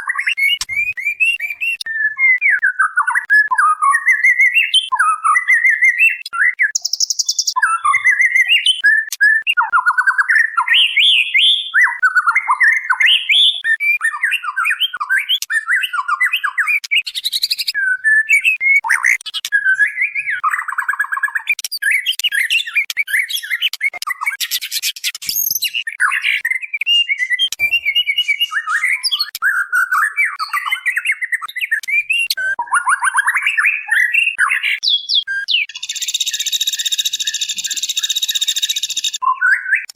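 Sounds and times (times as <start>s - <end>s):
bird chirping and warbling: 0.0s - 39.9s.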